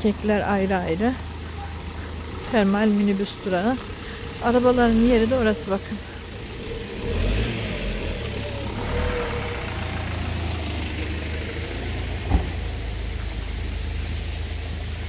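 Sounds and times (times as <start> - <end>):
minibus engine idling: 0.0 - 15.0.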